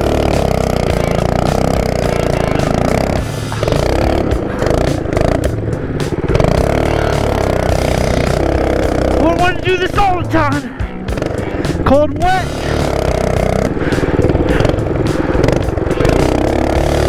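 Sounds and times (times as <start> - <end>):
mini bike engine running hard: 0.0 - 17.0.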